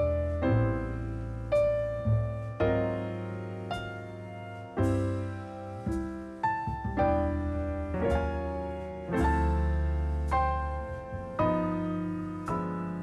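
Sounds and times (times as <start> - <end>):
slow solo piano: 0.0 - 13.0.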